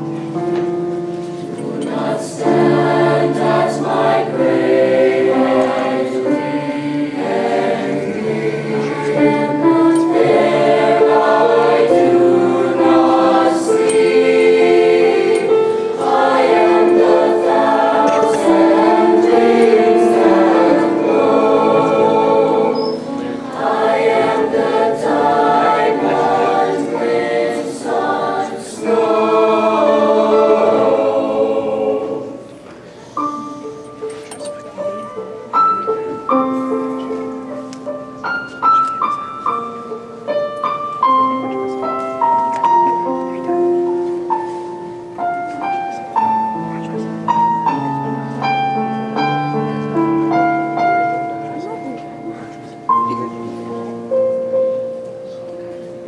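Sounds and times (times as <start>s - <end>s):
choir singing in harmony: 0.0s - 33.8s, 35.6s - 51.5s.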